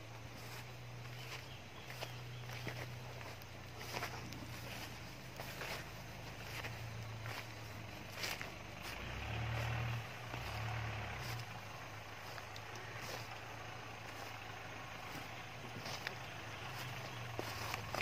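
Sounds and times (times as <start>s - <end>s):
off-road vehicle engine droning: 0.0s - 18.0s.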